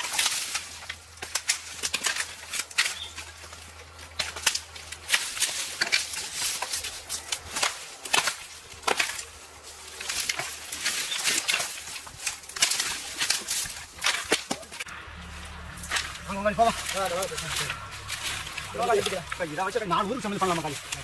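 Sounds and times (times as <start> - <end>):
dry fronds and sticks snapping: 0.0 - 21.0.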